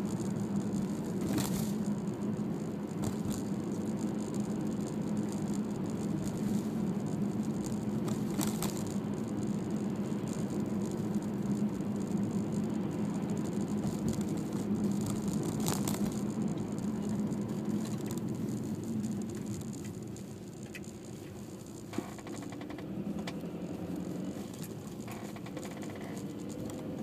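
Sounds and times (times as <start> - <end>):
car road and engine noise: 0.0 - 27.0.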